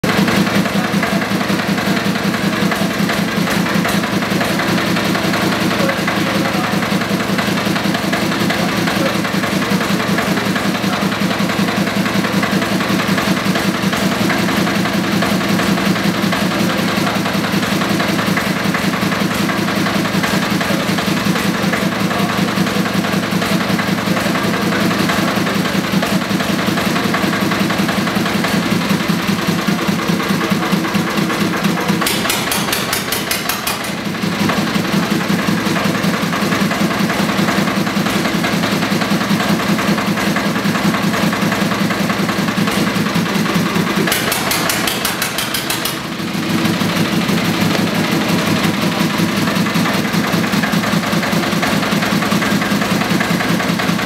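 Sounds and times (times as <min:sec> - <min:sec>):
old stationary engine running: 0:00.0 - 0:54.0.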